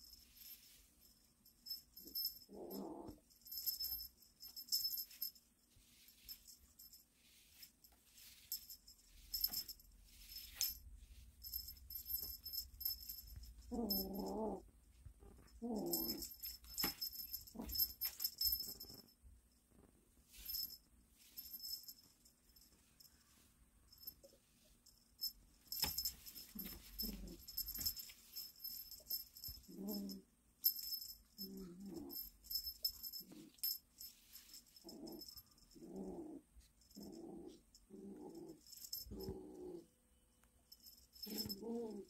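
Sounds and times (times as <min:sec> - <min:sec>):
small jingle bell jingling: 0:00.0 - 0:14.6, 0:15.3 - 0:19.2, 0:20.3 - 0:39.8, 0:40.7 - 0:42.0.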